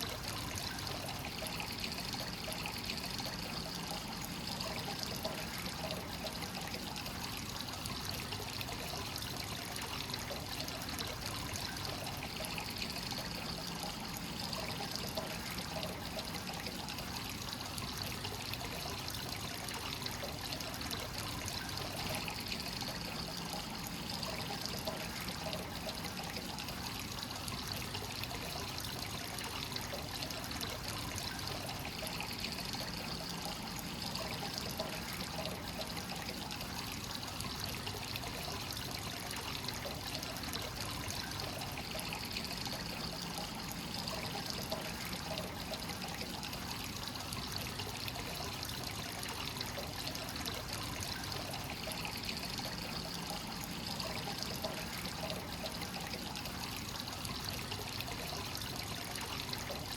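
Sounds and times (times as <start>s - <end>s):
water pouring into a bath: 0.0s - 59.9s.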